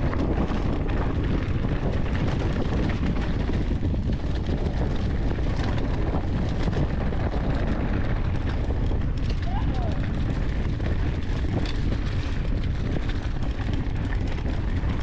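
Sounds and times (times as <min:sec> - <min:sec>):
bike rattling over ground: 0:00.0 - 0:15.0
wind buffeting microphone: 0:00.0 - 0:15.0.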